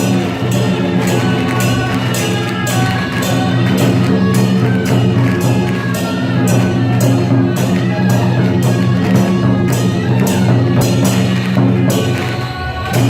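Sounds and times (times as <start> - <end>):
drum and cymbal beat: 0.0 - 13.0.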